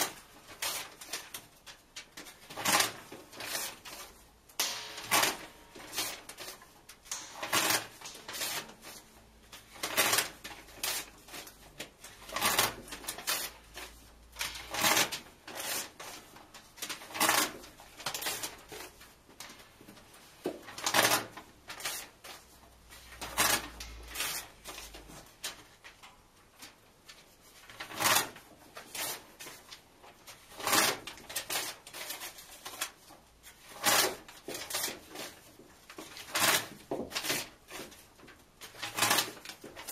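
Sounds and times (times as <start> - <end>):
paper pages ripping: 0.0 - 19.6, 20.7 - 26.0, 26.6 - 39.9.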